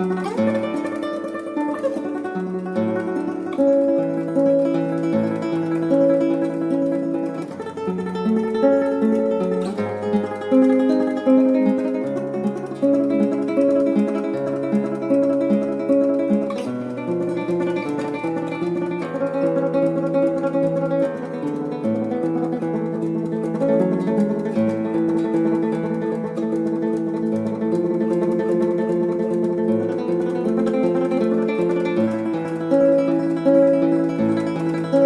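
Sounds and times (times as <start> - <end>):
acoustic guitar slow piece: 0.0 - 35.0.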